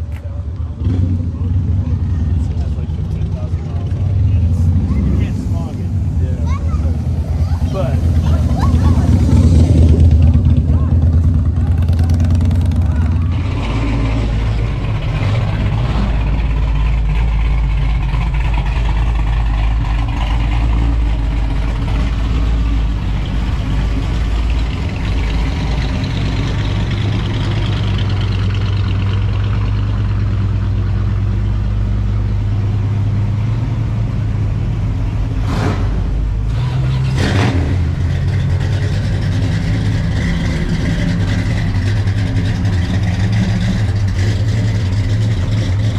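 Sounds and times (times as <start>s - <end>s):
car engine idling: 0.0s - 37.1s, 37.8s - 45.9s.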